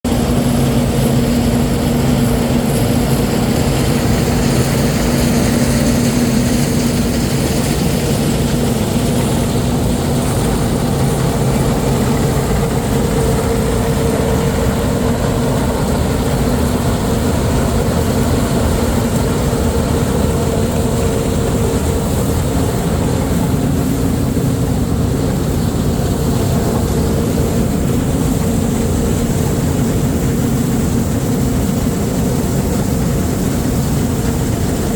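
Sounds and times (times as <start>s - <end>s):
diesel farm machinery running: 0.0s - 34.9s.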